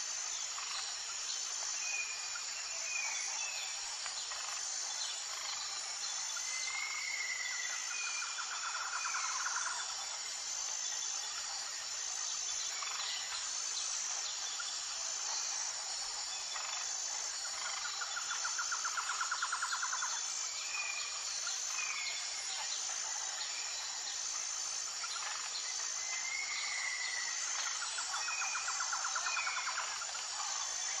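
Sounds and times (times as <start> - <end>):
high insect drone: 0.0 - 31.0.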